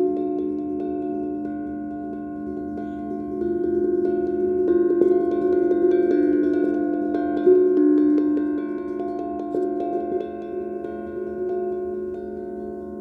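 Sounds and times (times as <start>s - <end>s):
singing bowls ringing: 0.0s - 13.0s
steel tongue drum notes: 0.0s - 13.0s.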